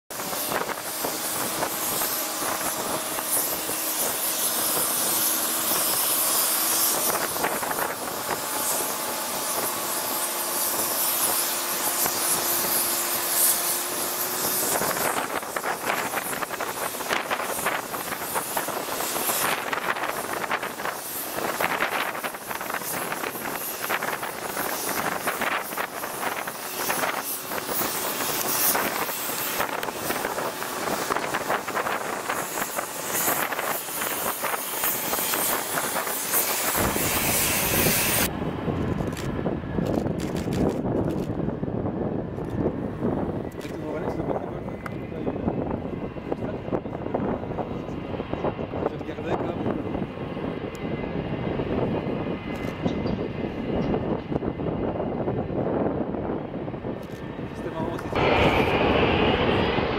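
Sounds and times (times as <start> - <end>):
jet engines whining: 0.1 - 59.9
wind on microphone: 0.1 - 59.9.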